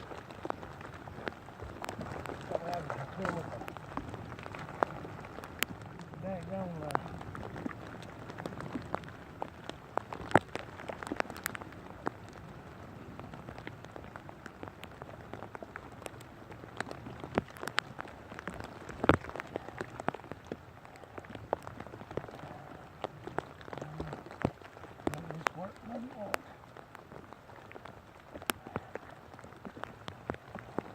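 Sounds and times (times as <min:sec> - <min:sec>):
rain falling: 0:00.0 - 0:30.9.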